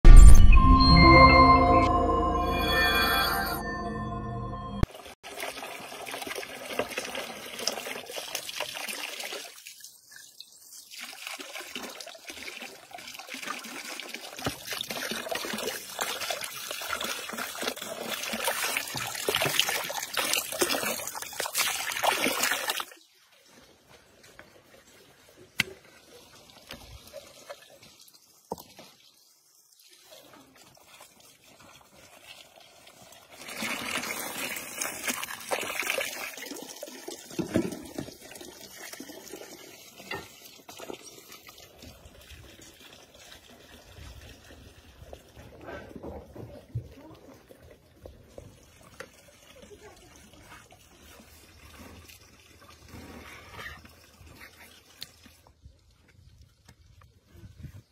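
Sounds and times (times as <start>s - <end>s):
water trickling and running: 4.9s - 57.9s.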